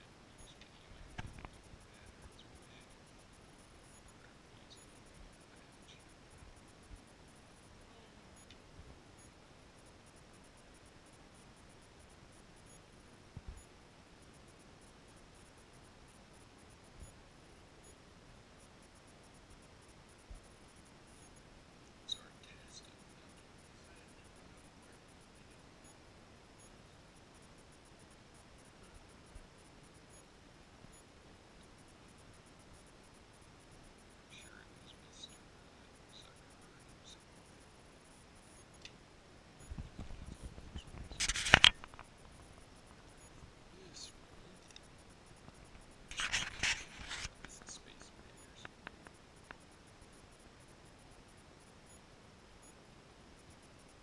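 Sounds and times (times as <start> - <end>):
faint hiss: 0.0 - 54.0.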